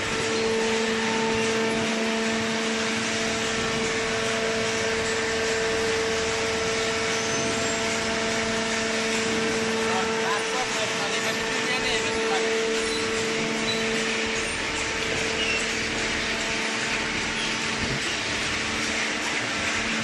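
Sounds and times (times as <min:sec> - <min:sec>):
hydraulic press motor humming: 0:00.0 - 0:20.0.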